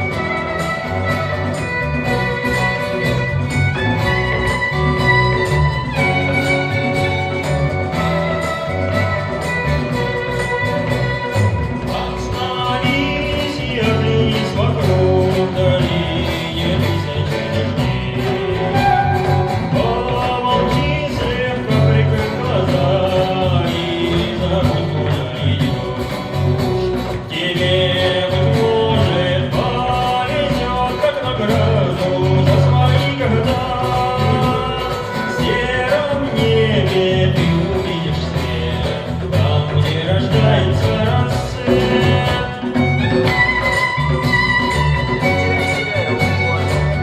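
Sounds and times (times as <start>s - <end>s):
acoustic band with guitar and fiddle: 0.0s - 47.0s.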